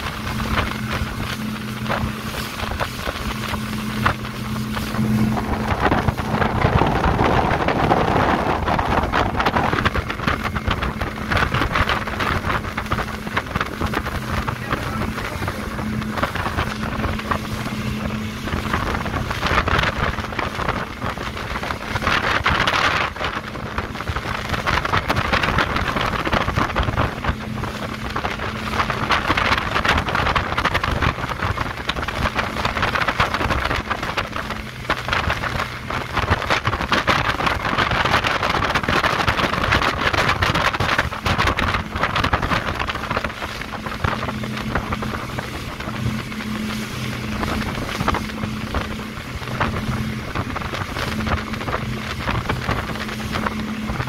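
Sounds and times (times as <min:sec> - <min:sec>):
outboard motors droning: 0:00.0 - 0:54.0
rushing wake water: 0:00.0 - 0:54.0
wind buffeting microphone: 0:00.0 - 0:54.0.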